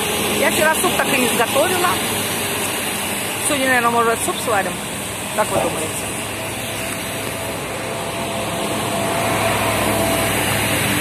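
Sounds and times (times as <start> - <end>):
traffic on wet road: 0.0 - 11.0
vehicle engine hum: 0.0 - 11.0.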